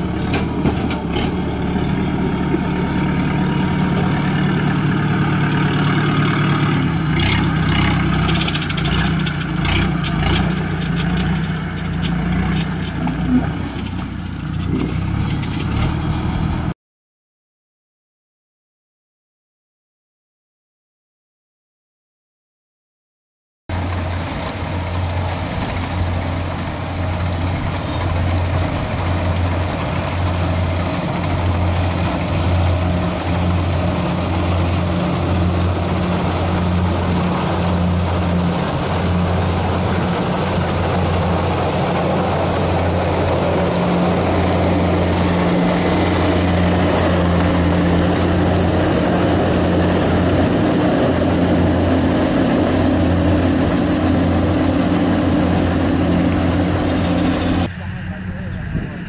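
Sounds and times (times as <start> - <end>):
diesel engine running under load: 0.0 - 16.7, 23.7 - 59.0.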